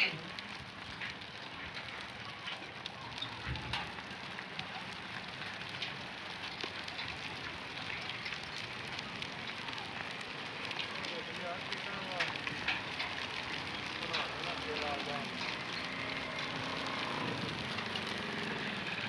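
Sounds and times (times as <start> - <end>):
raindrop ticks: 0.0 - 19.0
steady rain hiss: 0.0 - 19.0.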